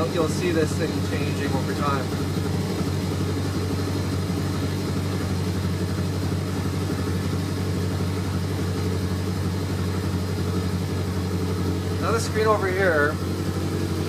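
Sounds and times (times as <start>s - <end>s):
car engine fast idling: 0.0s - 14.0s.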